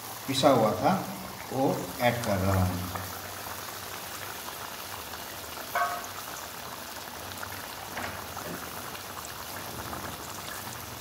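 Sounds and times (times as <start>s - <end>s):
curry bubbling in a pan: 0.0s - 11.0s.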